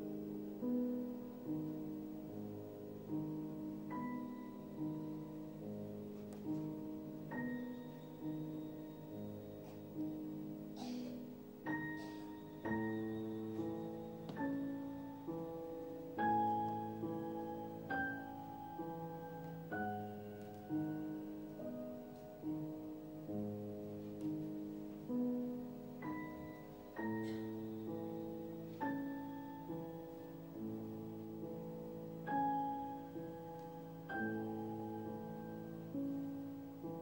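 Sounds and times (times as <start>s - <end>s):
slow solo piano: 0.0s - 37.0s.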